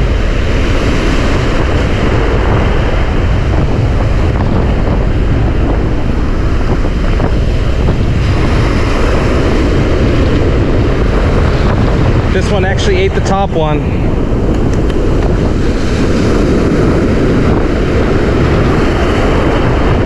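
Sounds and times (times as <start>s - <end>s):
surf breaking on shore: 0.0s - 20.0s
wind buffeting microphone: 0.0s - 20.0s.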